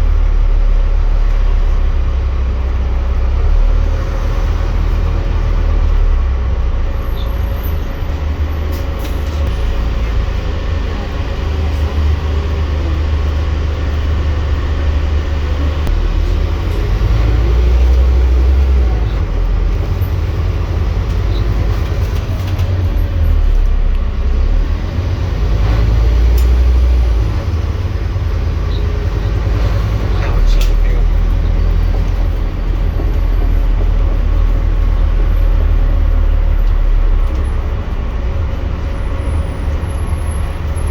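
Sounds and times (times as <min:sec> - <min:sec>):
bus diesel engine droning: 0:00.0 - 0:40.9
road and body noise: 0:00.0 - 0:40.9.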